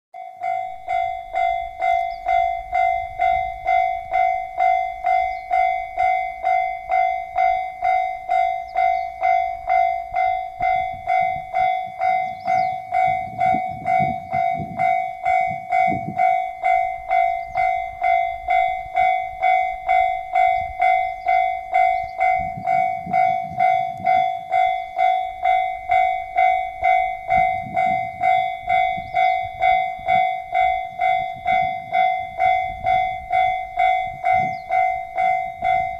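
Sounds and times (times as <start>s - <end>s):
level crossing bell ringing: 0.2s - 35.9s
railcar engine and wheels rumbling: 0.2s - 35.9s.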